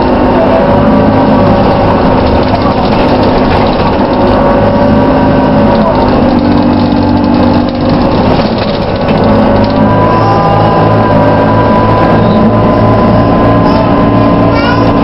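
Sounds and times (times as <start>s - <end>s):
bus engine running: 0.0s - 15.0s
whirring drivetrain whine: 0.0s - 15.0s.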